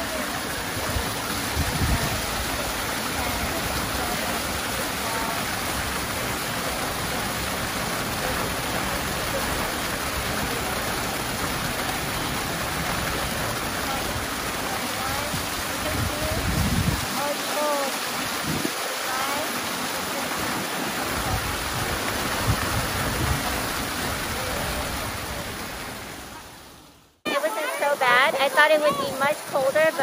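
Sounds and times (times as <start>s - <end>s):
water pouring into a pool: 0.0s - 30.0s.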